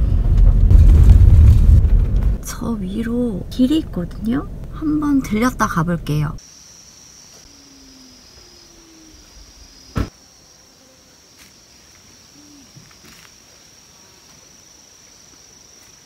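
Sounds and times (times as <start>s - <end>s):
insects trilling: 2.6s - 16.0s.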